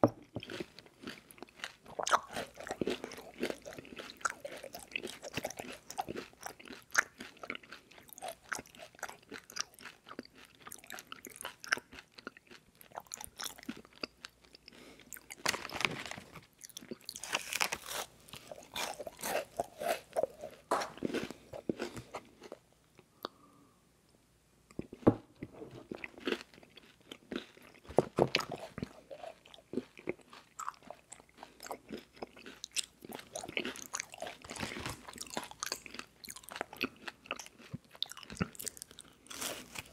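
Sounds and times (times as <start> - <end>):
crunching and chewing cereal bars: 0.1 - 23.4, 25.8 - 39.9.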